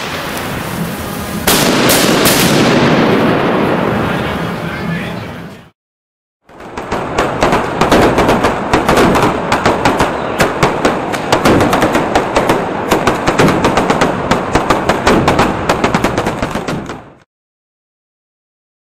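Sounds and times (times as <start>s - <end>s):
firecracker bangs and crackles: 0.0s - 4.6s, 6.5s - 17.3s.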